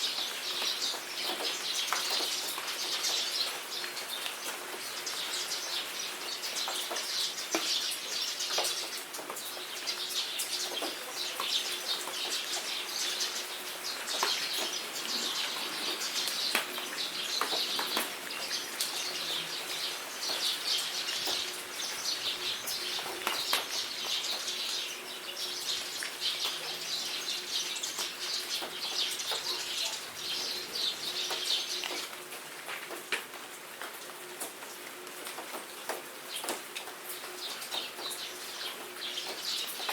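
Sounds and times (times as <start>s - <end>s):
birds chirping: 0.0s - 32.2s
rain dripping and pattering: 0.0s - 39.9s.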